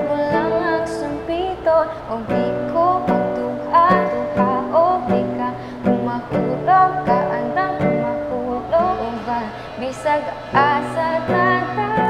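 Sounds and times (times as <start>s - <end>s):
acoustic guitar playing chords: 0.0s - 12.0s.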